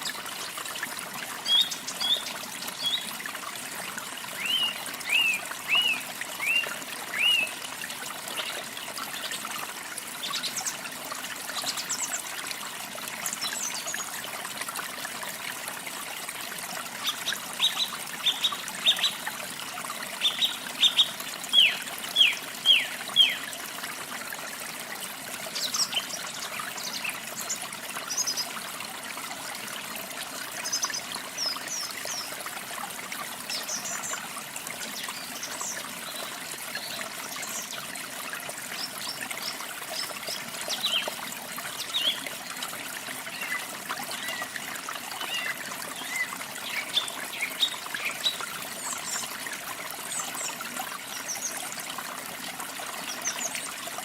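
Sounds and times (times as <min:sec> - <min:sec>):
running water trickling: 0:00.0 - 0:54.0.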